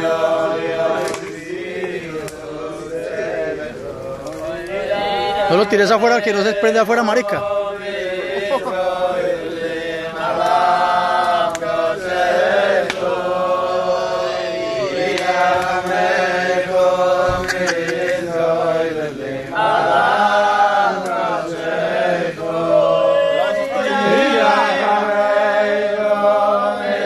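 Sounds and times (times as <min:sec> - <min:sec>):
group singing unaccompanied: 0:00.0 - 0:27.0.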